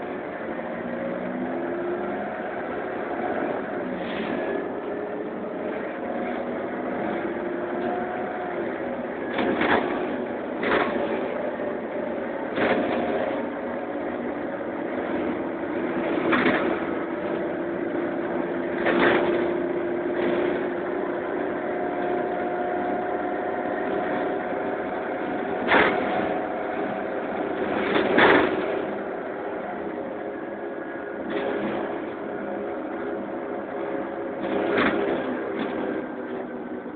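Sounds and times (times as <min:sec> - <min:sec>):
bus engine humming and whining: 0:00.0 - 0:36.9.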